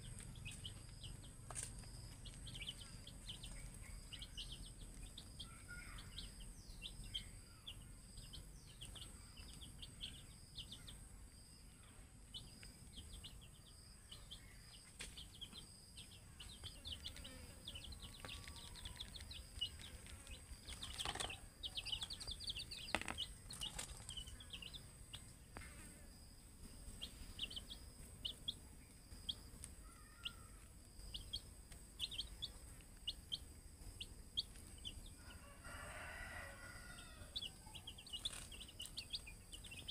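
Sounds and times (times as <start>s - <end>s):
chicks peeping: 0.0s - 11.5s, 12.2s - 25.9s, 26.5s - 39.9s.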